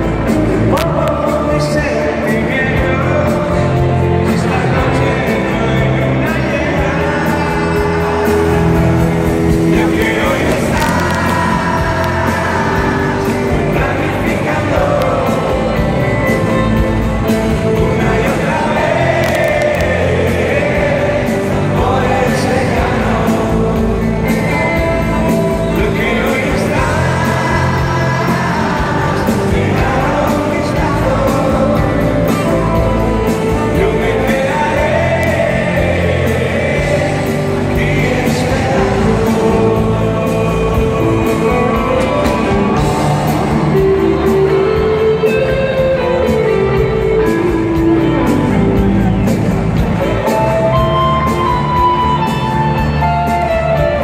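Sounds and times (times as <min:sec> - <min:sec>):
drum kit: 0:00.0 - 0:54.0
electric bass: 0:00.0 - 0:54.0
electric guitar: 0:00.0 - 0:54.0
man singing: 0:00.0 - 0:54.0.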